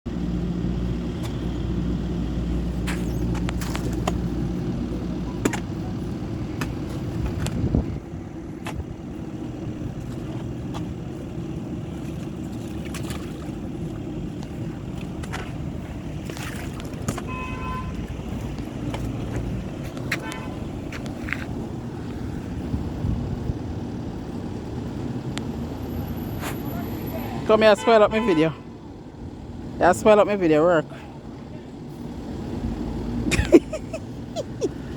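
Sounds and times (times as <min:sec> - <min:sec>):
vehicle engine rumbling: 0:00.1 - 0:34.9.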